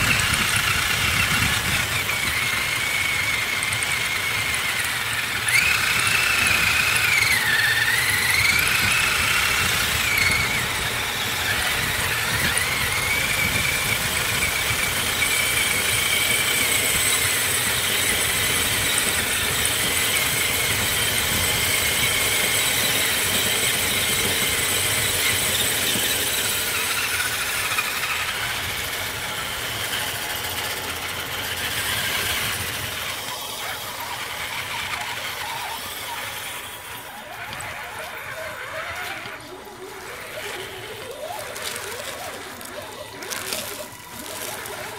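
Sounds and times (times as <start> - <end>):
toy truck motor whining: 0.0 - 44.9.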